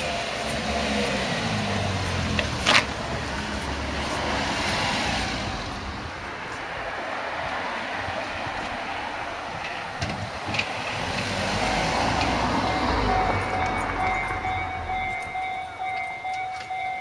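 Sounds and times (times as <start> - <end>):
car engine passing: 0.0 - 17.0.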